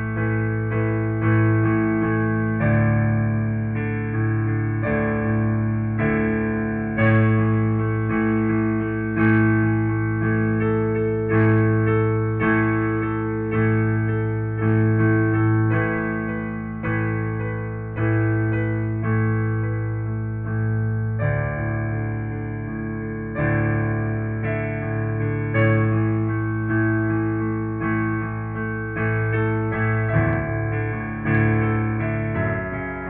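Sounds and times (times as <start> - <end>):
piano playing slow chords: 0.0 - 33.0.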